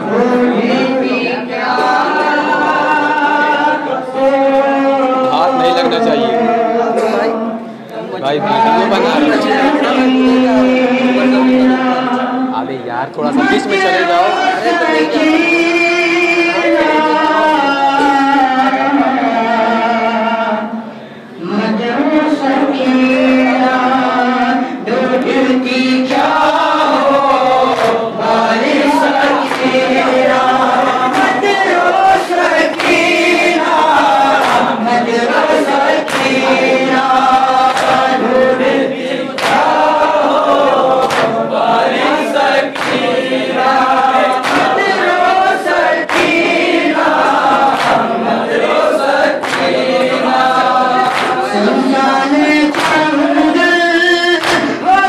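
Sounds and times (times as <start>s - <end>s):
boys chanting in unison: 0.0s - 55.0s.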